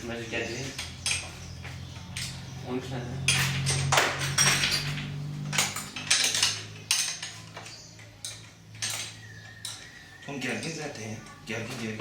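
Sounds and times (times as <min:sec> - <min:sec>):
metal tools clinking on metal: 0:00.5 - 0:11.8.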